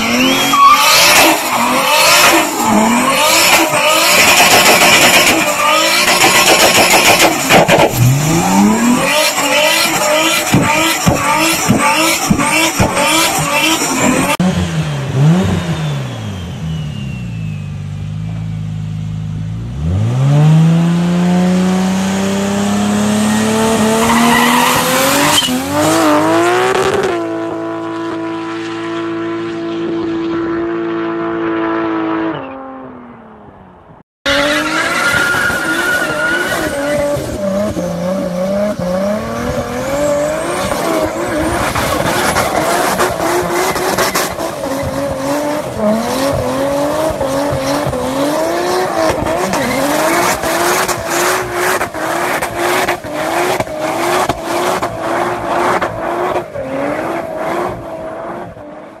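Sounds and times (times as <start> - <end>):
car engine revving high: 0.0 - 33.4, 34.3 - 59.0.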